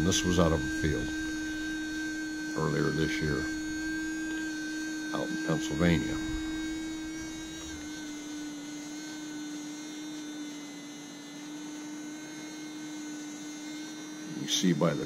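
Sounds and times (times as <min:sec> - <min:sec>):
electric buzzing hum: 0:00.0 - 0:15.0.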